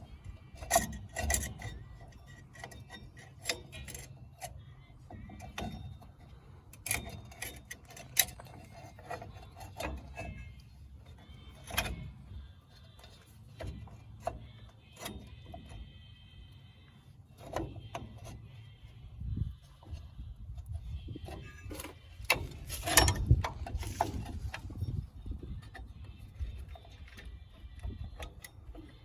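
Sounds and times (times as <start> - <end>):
low steady hum: 0.0 - 29.0
metal tools clinking: 0.5 - 15.8, 20.8 - 29.0.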